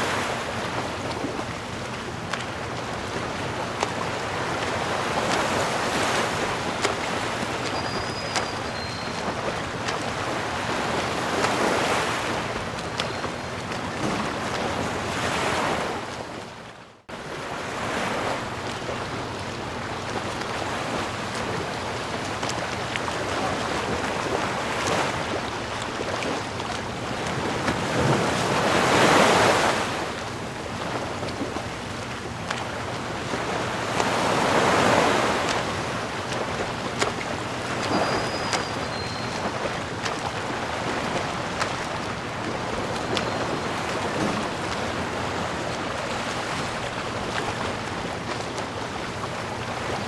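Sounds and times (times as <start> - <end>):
big waves breaking: 0.0 - 50.0
sea waves surging onto shore: 0.0 - 50.0.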